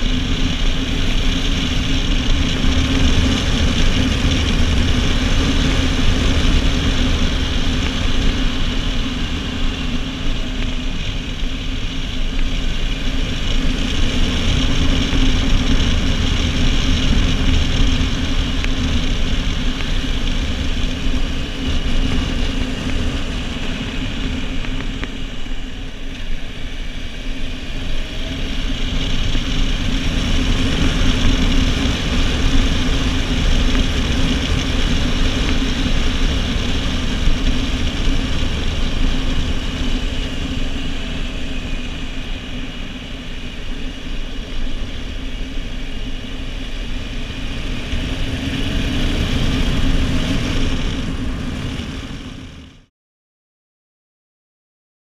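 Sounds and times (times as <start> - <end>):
motorcycle engine cruising: 0.0 - 52.9
wind and road noise: 0.0 - 52.9.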